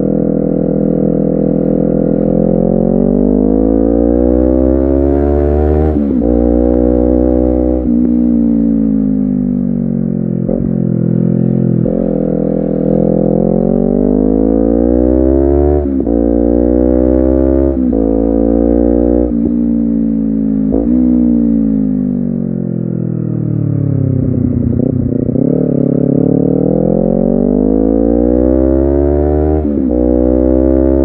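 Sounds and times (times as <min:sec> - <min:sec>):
motorcycle engine and exhaust: 0:00.0 - 0:31.0.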